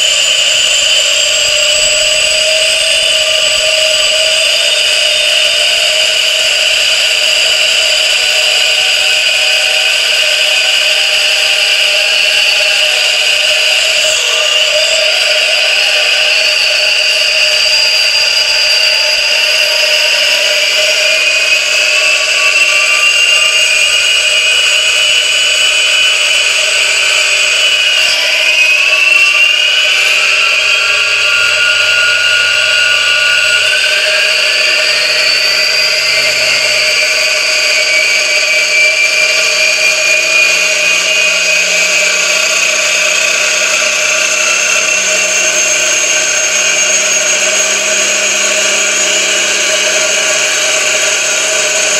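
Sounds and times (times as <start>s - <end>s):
high-pitched gear whine: 0.0s - 51.9s.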